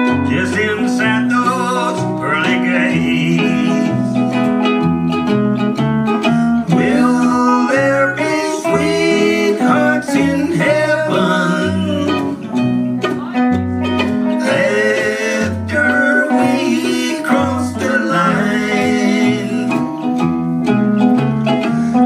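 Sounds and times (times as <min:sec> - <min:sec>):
archtop guitar: 0:00.0 - 0:22.0
mandolin: 0:00.0 - 0:22.0
plucked upright bass: 0:00.0 - 0:22.0.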